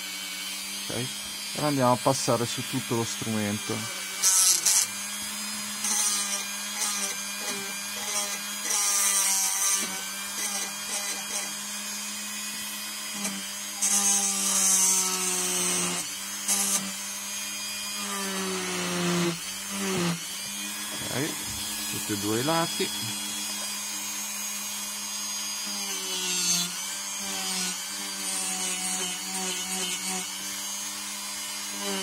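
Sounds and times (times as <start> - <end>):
rotary tool motor whine: 0.0 - 32.0.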